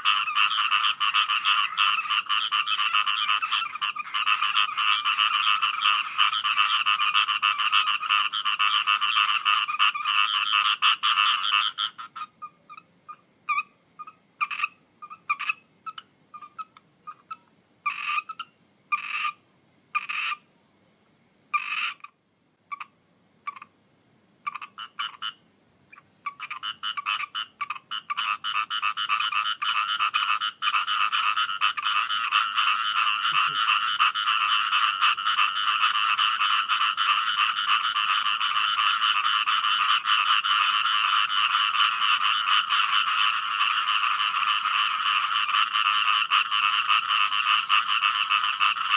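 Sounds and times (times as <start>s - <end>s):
frogs croaking: 0.0s - 48.9s.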